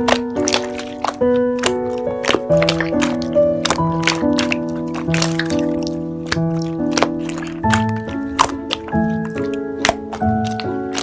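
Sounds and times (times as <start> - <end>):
gentle background music: 0.0 - 11.0
sharp slime pops: 0.0 - 11.0
slime squishing: 0.0 - 11.0.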